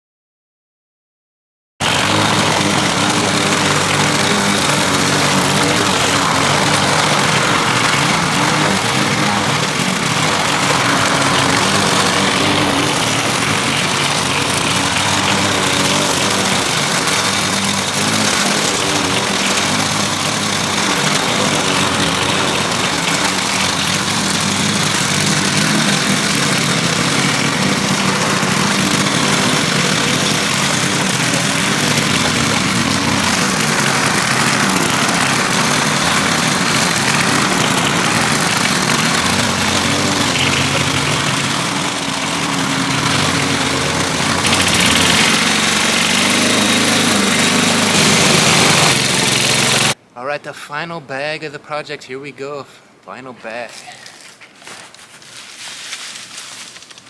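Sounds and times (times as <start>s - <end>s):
blade cutting grass: 1.8s - 50.0s
lawn mower engine running: 1.8s - 50.1s.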